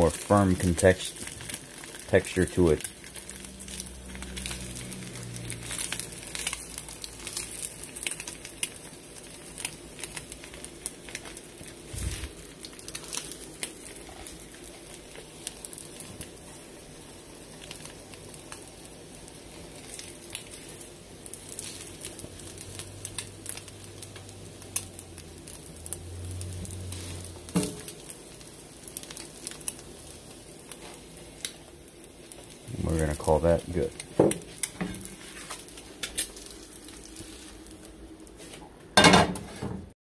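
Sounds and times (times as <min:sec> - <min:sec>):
egg sizzling in a pan: 0:00.0 - 0:39.7.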